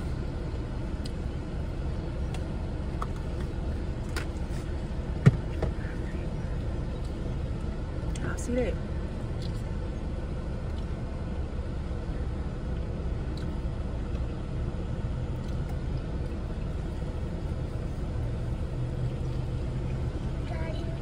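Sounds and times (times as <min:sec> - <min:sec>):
car air conditioning whirring: 0:00.0 - 0:21.0.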